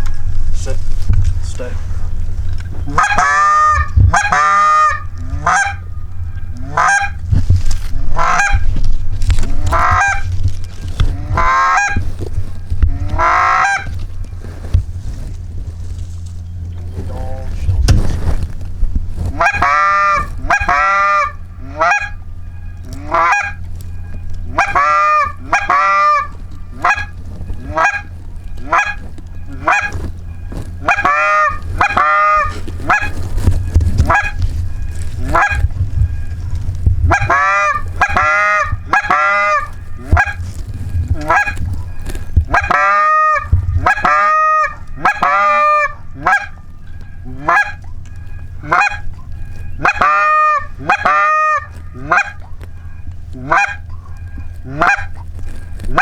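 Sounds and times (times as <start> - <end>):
geese honking: 0.0 - 56.0
steady low rumble: 0.0 - 56.0.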